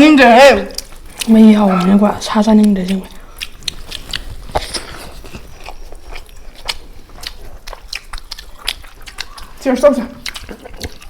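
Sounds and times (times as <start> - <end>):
person chewing food: 0.7 - 11.0.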